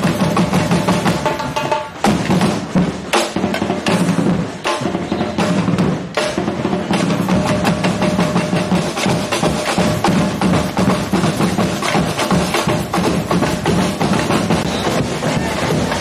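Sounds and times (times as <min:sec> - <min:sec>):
bass drums: 0:00.0 - 0:16.0
snare drums: 0:00.0 - 0:16.0.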